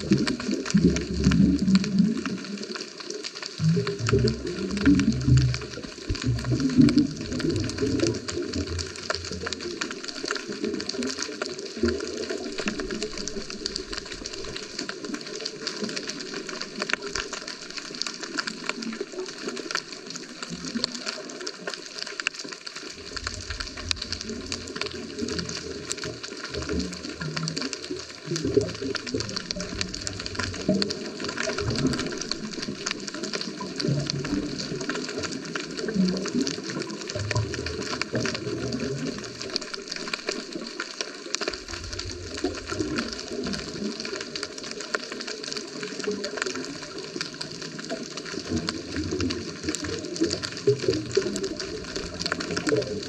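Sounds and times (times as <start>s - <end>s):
crackling hiss: 0.0s - 53.0s
underwater bubbles rumbling: 0.0s - 53.0s.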